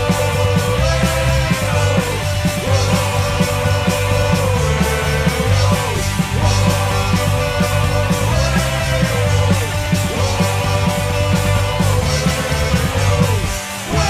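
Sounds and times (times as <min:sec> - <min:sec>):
driving drum beat: 0:00.0 - 0:14.0
punk rock music: 0:00.0 - 0:14.0.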